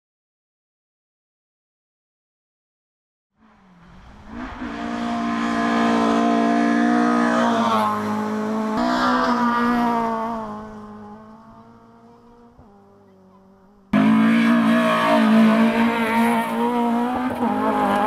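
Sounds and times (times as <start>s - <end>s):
rally car engine at full throttle: 3.4s - 18.0s.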